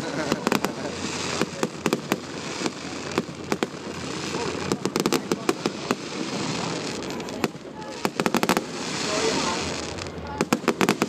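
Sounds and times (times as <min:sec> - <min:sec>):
fireworks bangs and pops: 0:00.0 - 0:11.0
fireworks crackling hiss: 0:00.0 - 0:11.0.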